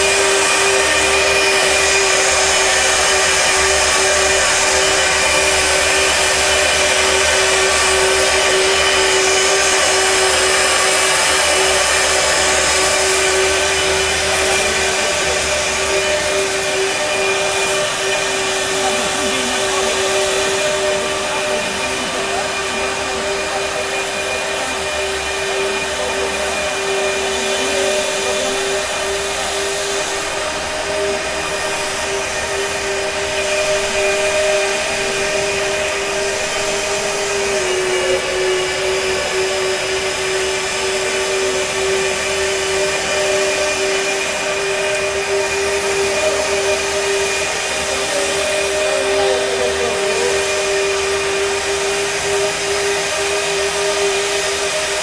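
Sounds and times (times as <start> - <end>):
pipe bevelling machine whining: 0.0 - 55.0.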